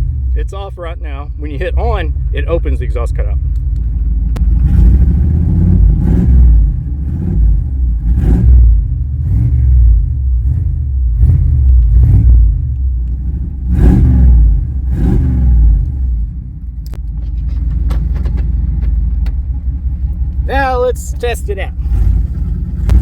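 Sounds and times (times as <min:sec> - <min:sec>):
pickup truck engine revving: 0:00.0 - 0:18.9, 0:19.6 - 0:23.0
engine idling: 0:00.0 - 0:23.0.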